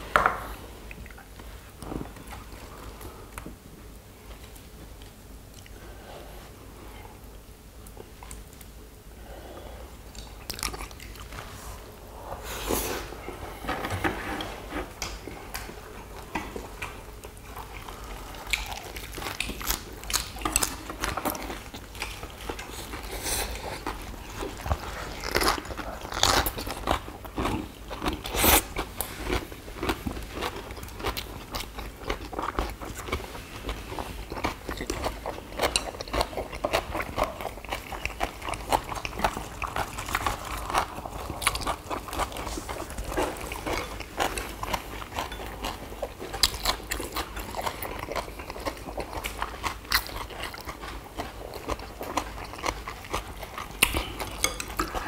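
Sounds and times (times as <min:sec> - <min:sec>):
people chewing and crunching: 0:07.9 - 0:55.0.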